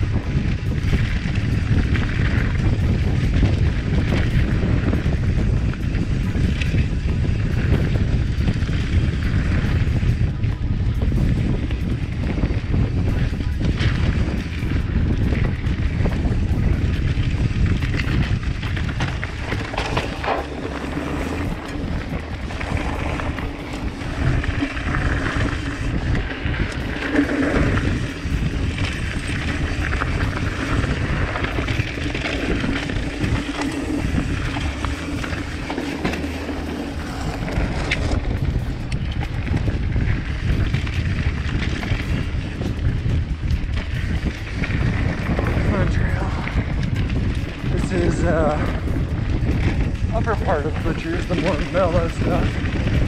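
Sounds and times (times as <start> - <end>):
bike knocks and rattles: 0.0 - 53.0
wind buffeting camera: 0.0 - 53.0.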